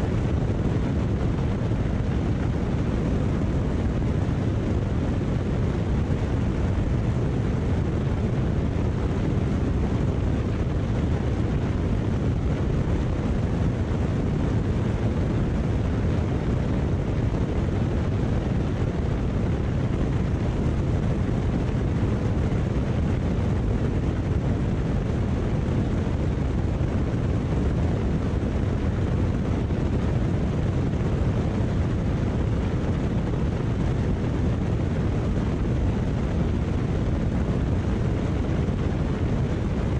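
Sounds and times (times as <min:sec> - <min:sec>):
light airplane engine drone: 0:00.0 - 0:39.9
rushing wind: 0:00.0 - 0:39.9.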